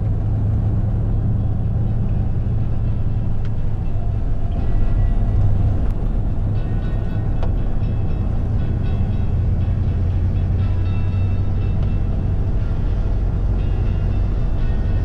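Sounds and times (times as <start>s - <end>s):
car engine drone: 0.0s - 15.0s
tyres on paved road: 0.0s - 15.0s.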